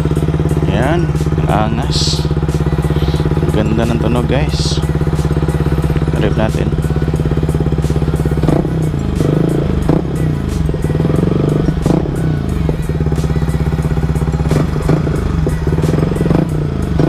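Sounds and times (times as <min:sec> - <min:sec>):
exhaust pops: 0:00.0 - 0:17.0
motorcycle engine revving: 0:00.0 - 0:17.0.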